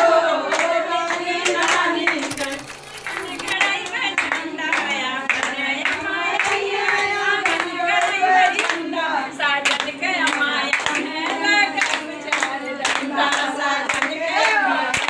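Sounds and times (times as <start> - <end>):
hands clapping in rhythm: 0.0 - 15.0
women singing together: 0.0 - 15.0.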